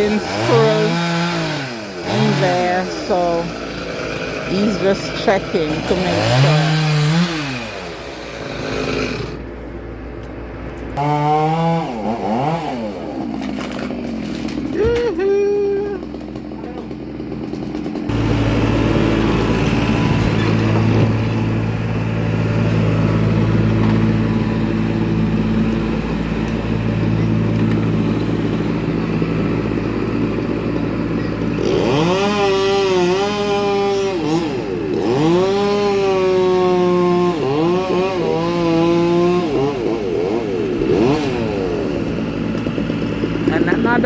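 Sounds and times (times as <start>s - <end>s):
chainsaw revving hard: 0.0s - 9.5s, 11.0s - 44.0s
small engine running: 0.0s - 44.0s.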